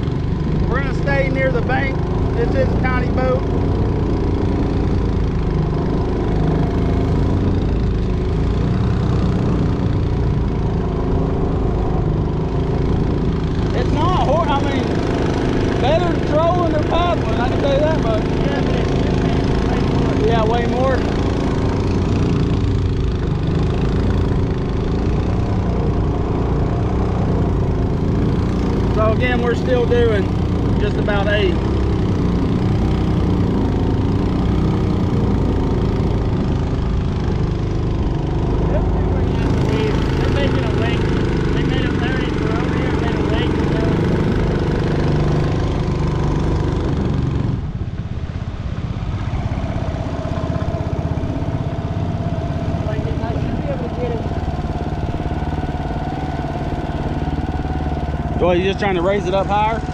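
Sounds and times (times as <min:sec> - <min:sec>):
boat motor running steadily: 0:00.0 - 0:59.9.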